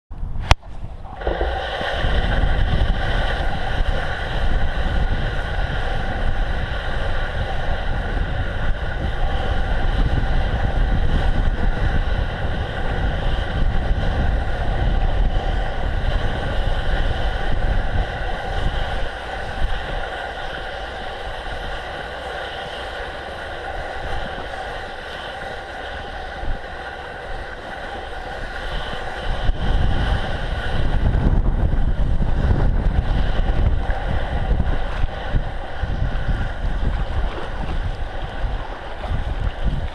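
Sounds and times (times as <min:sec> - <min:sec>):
wind buffeting microphone: 0:00.1 - 0:39.9
bicycle tyres on snow: 0:01.2 - 0:39.9.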